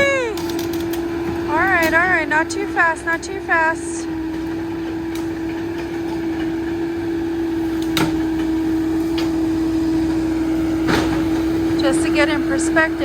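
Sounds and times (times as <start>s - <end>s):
excavator engine humming: 0.0s - 13.0s.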